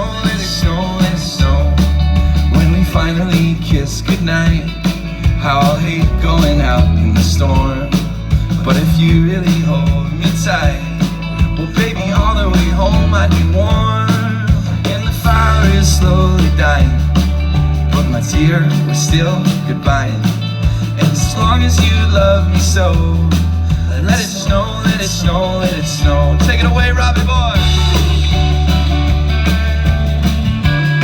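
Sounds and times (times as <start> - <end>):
person singing: 0.0 - 29.6
bass line: 0.0 - 31.0
live band beat: 0.0 - 31.0.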